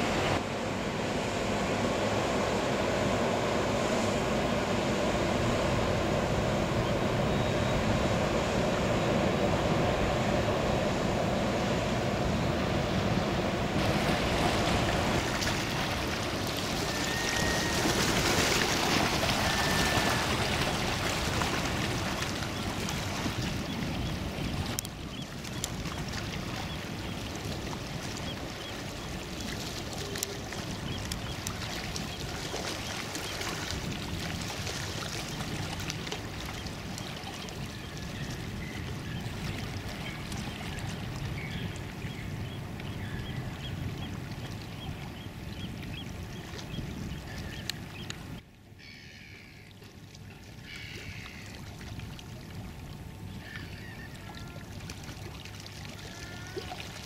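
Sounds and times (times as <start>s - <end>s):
water rushing: 0.0s - 48.4s, 49.8s - 57.0s
boat engine noise: 0.0s - 48.5s, 49.4s - 57.0s.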